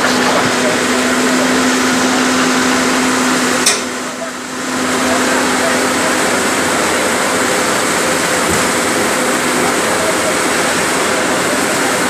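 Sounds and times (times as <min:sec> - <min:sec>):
excavator diesel engine rushing: 0:00.0 - 0:12.0.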